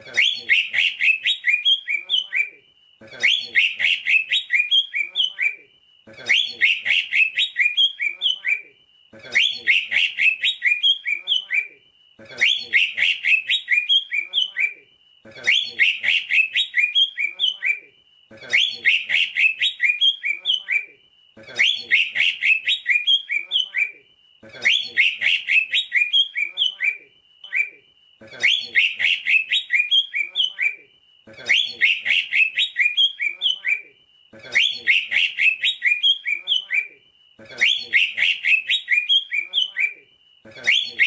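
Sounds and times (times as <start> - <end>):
bird chirping: 0.0 - 41.0.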